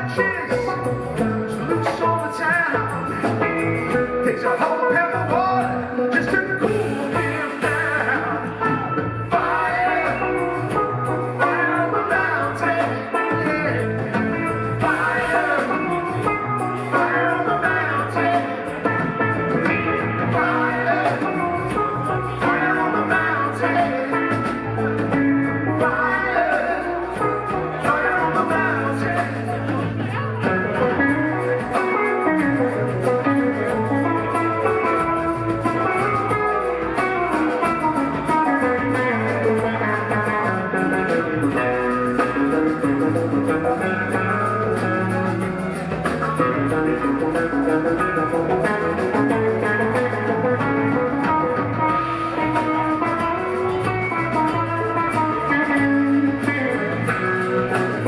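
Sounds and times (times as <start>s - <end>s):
bass guitar: 0.0s - 58.0s
lead electric guitar: 0.0s - 58.0s
rock band playing: 0.0s - 58.0s.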